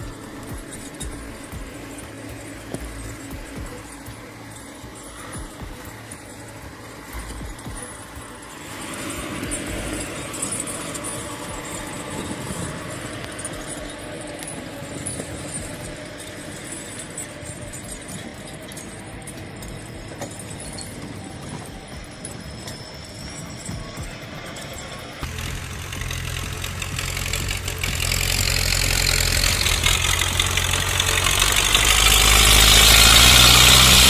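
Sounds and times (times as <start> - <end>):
tractor engine running under load: 0.0 - 34.0.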